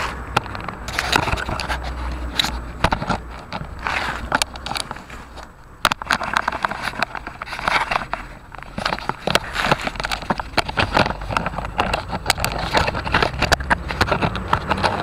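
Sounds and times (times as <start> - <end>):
camera being handled and slid: 0.0 - 15.0.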